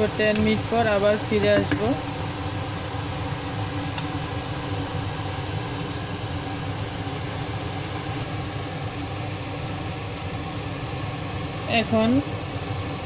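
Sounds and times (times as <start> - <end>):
mechanical whir with low hum: 0.0 - 13.0.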